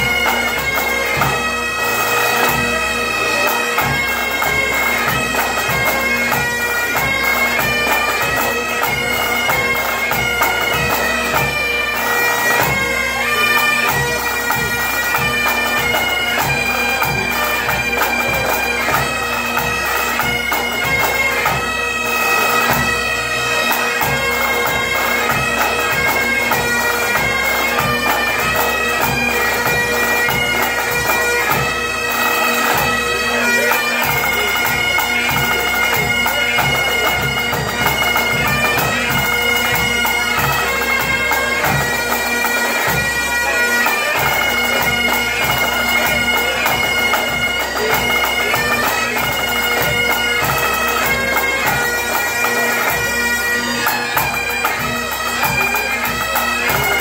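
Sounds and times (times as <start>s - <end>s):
bagpipe band playing: 0.0s - 57.0s.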